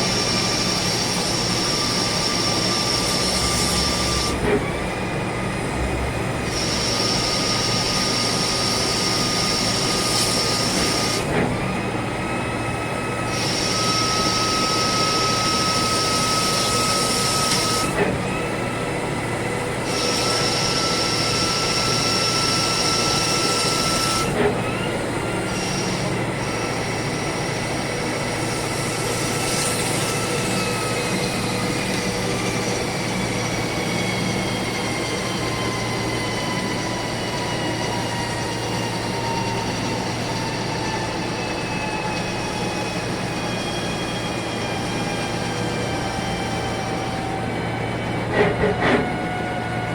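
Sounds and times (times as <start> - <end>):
constant lathe machine noise: 0.0 - 49.9
high machine whine: 0.0 - 49.9.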